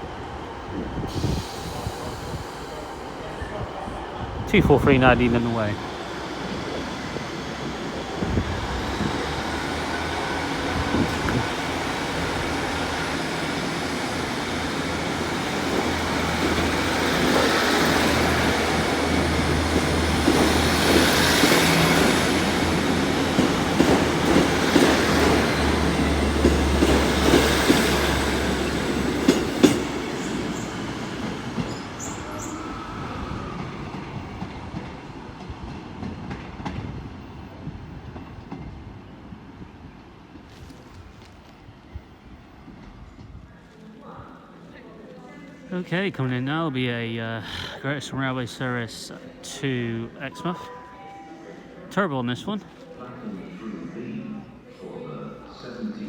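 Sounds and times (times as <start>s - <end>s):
train engine hum: 0.0s - 54.7s.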